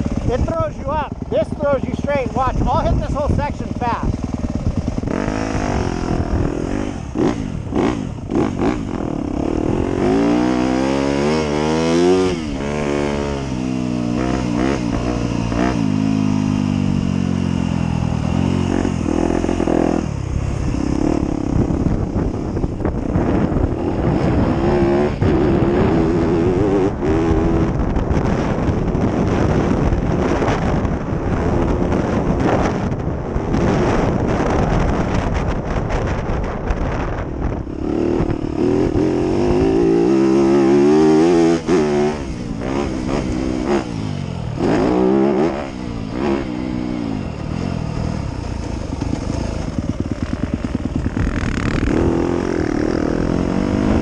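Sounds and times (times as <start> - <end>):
dirt bike engine revving: 0.0 - 54.0
wind noise: 0.0 - 54.0.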